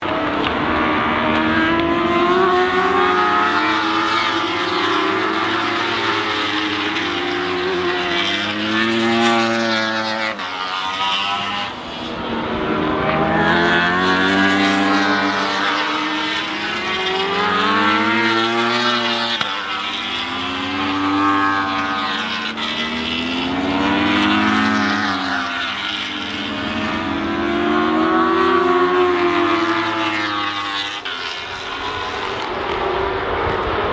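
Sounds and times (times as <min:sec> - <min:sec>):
racing motorcycle engines: 0:00.0 - 0:33.9.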